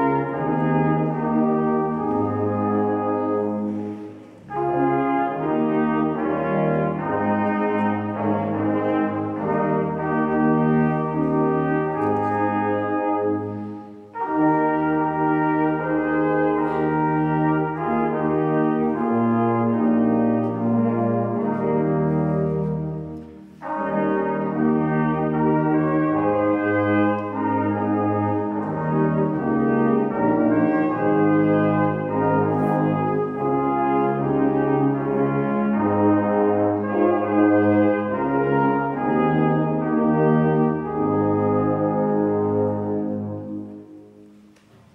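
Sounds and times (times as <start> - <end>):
brass ensemble playing: 0.0 - 44.9.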